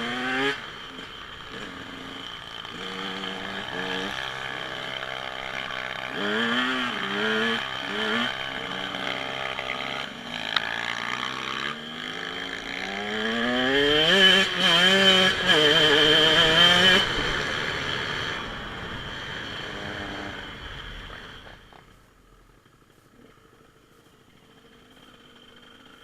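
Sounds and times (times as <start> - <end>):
dirt bike engine revving: 0.0 - 21.7, 22.4 - 26.0.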